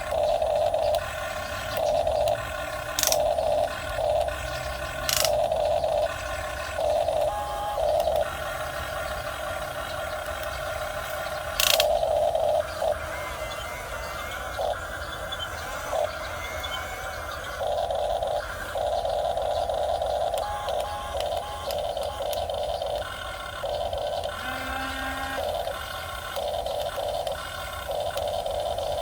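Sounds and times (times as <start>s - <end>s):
sharp clicks: 0.0s - 29.0s
small electric motors whining: 0.0s - 29.0s.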